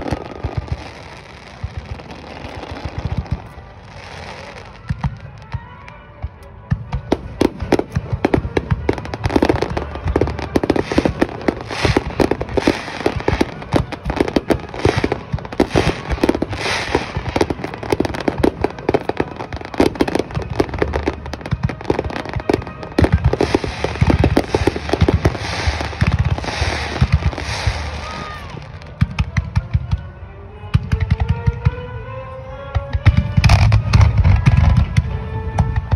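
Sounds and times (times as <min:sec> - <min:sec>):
fireworks crackle: 0:00.0 - 0:30.1, 0:32.8 - 0:35.9.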